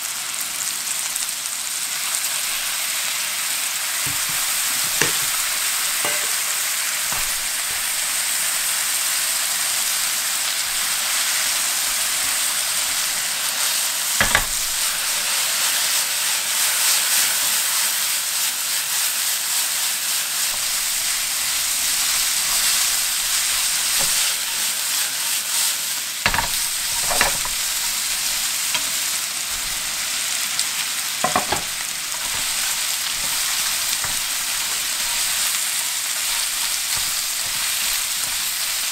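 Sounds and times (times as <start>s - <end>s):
meat sizzling in a frying pan: 0.0s - 38.9s.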